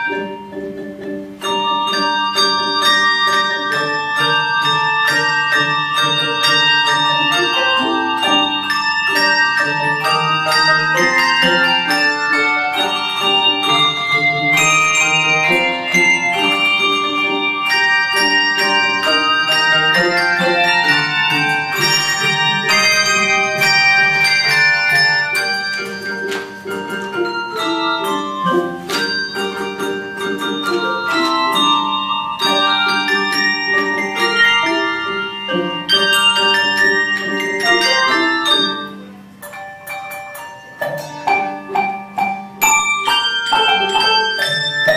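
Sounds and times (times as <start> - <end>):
handbell choir ringing: 0.0 - 44.9.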